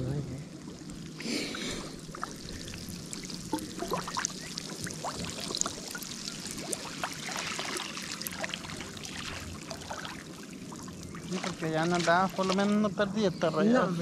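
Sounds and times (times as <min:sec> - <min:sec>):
water splashing and trickling: 0:00.0 - 0:13.6.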